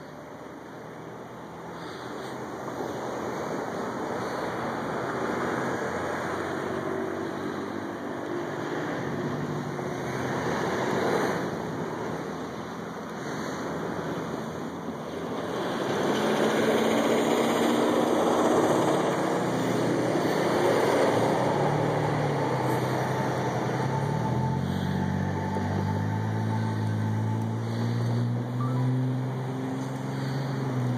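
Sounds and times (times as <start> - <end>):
locomotive diesel engine running: 0.0 - 30.9.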